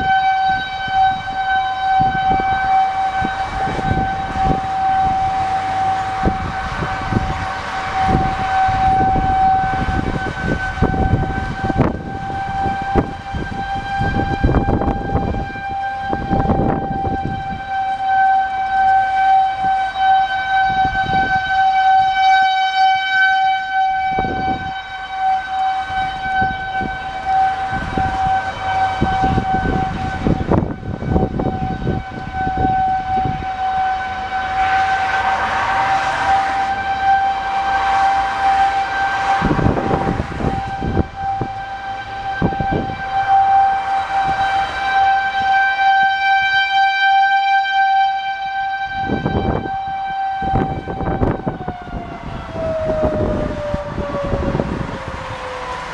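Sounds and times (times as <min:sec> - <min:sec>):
wind rumbling on microphone: 0:00.0 - 0:46.8, 0:47.8 - 0:55.9
distant warning siren steady tone: 0:00.0 - 0:55.9.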